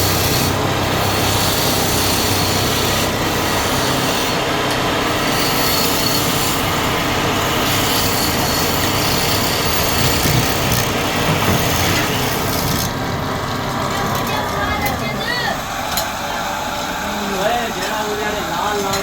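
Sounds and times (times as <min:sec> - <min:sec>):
lathe tool scraping wood: 0:00.0 - 0:19.0.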